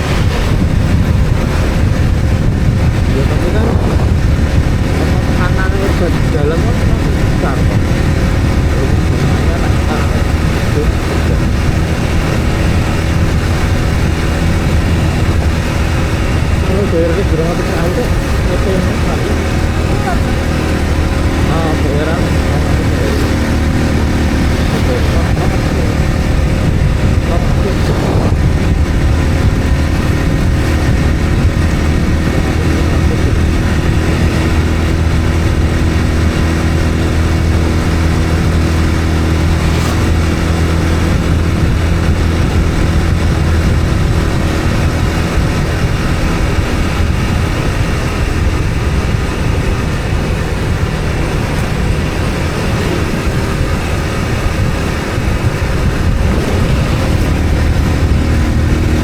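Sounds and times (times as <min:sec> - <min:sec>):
road noise: 0:00.0 - 0:59.0
vehicle engine running: 0:00.0 - 0:59.0.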